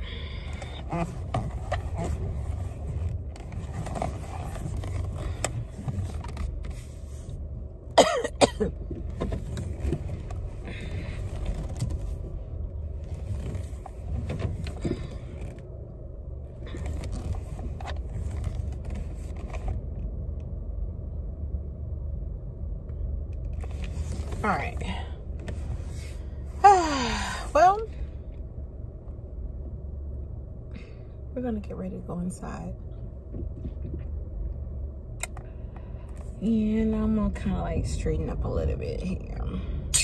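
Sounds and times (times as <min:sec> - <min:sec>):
road and engine rumble: 0:00.0 - 0:40.0.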